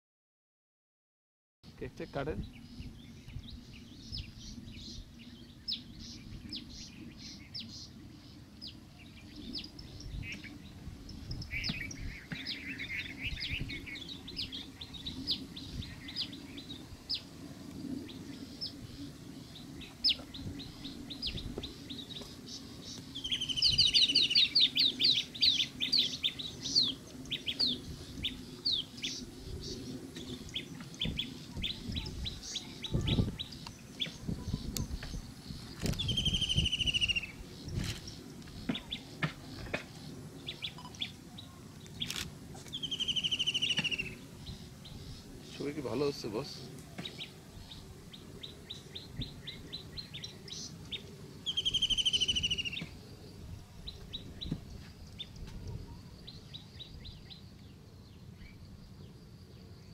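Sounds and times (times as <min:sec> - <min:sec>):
low steady background noise: 0:01.7 - 0:59.9
small birds chirping: 0:01.7 - 0:59.9.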